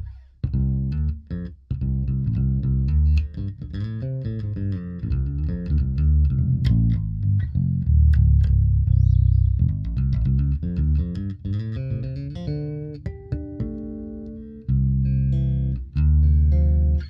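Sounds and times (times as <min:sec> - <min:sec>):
electric bass plucked: 0:00.0 - 0:17.0.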